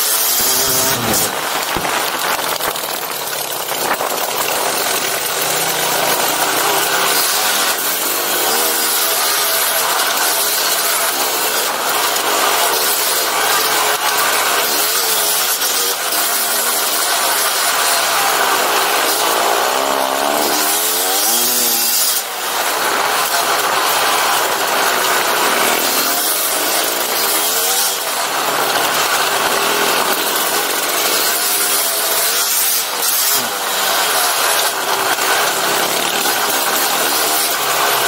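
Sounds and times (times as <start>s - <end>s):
dirt bike engine revving: 0.1s - 38.0s.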